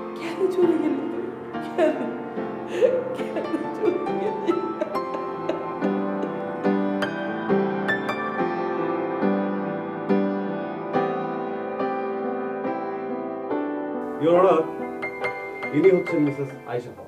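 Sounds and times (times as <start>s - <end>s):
slow keyboard music: 0.0s - 17.0s.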